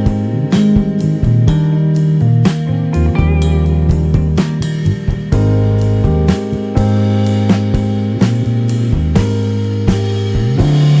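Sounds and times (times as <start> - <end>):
jazz background music: 0.0 - 11.0.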